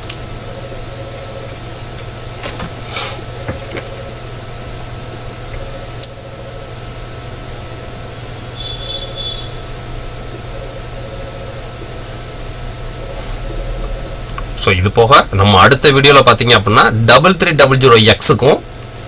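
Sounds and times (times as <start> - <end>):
computer fans humming: 0.0 - 19.0.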